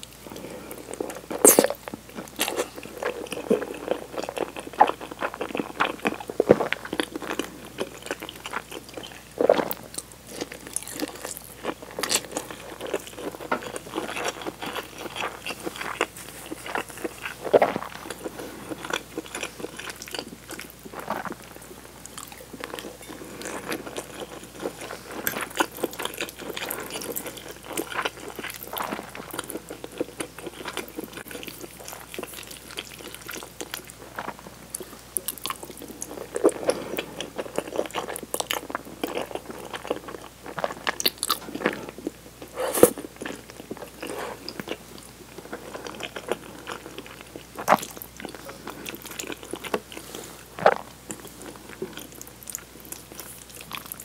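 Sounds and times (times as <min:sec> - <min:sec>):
woman chewing food: 0:00.0 - 0:54.0.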